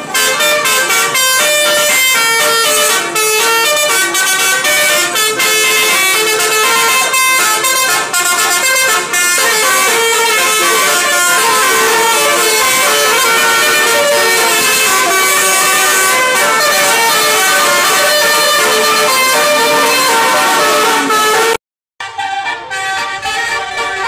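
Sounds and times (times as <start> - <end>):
bus multi-tone horn playing a tune: 0.0 - 24.0.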